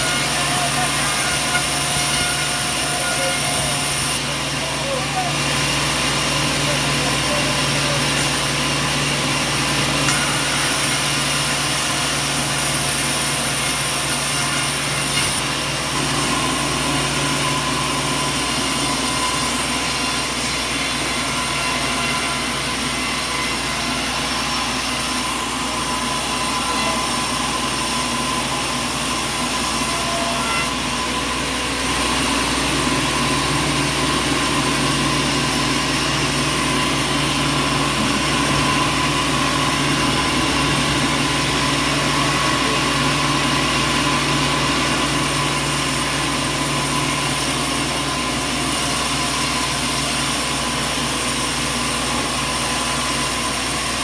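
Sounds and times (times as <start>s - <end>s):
sawmill machinery din: 0.0s - 54.0s.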